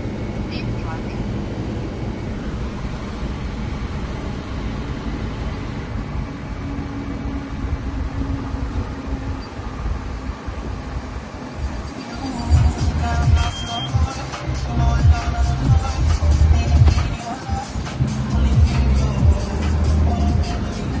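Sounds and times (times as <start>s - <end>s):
car noise rumble and hiss: 0.0s - 21.0s.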